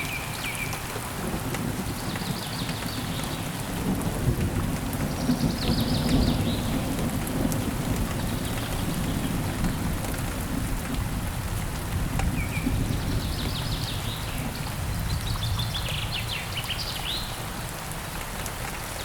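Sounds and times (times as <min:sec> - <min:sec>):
steady rain: 0:00.0 - 0:19.0
low rumble of thunder: 0:01.0 - 0:17.5.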